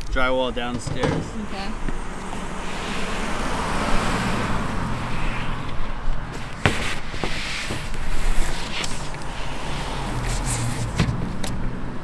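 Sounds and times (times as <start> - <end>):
street noise: 0.0 - 12.0
vehicle engine rumble: 0.0 - 12.0.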